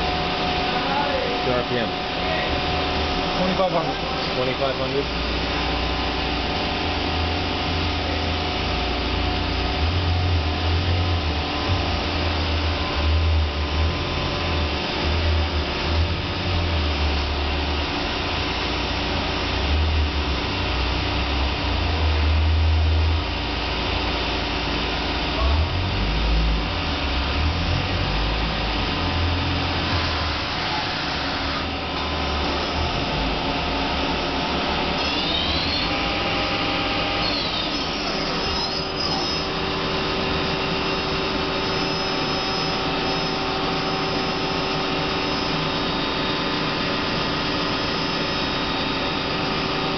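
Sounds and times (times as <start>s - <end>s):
lathe mechanical whir: 0.0s - 49.9s.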